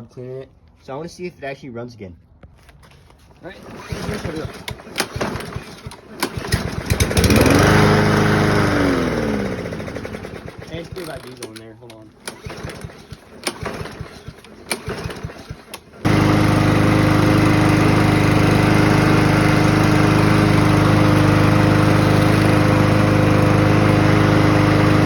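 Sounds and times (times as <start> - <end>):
push mower engine running: 3.4 - 25.0.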